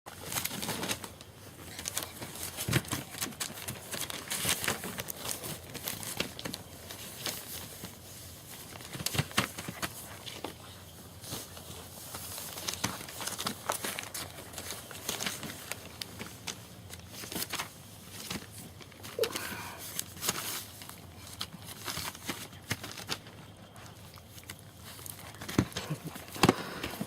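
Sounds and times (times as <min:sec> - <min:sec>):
puppies rustling and scratching: 0:00.1 - 0:27.0.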